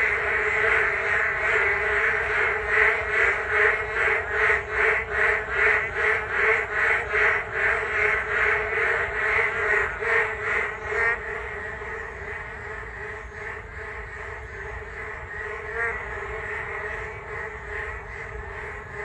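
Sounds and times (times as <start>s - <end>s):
frog chorus drone: 0.0s - 19.0s
loud rhythmic frog croaking: 0.0s - 19.0s.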